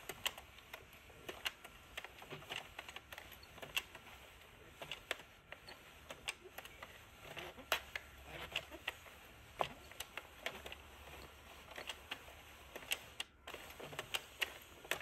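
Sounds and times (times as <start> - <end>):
knitting machine clicking: 0.0 - 15.0.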